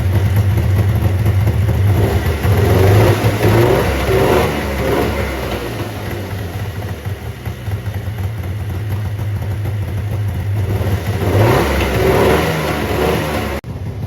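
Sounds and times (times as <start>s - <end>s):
two-stroke engine running and revving: 0.0s - 14.0s.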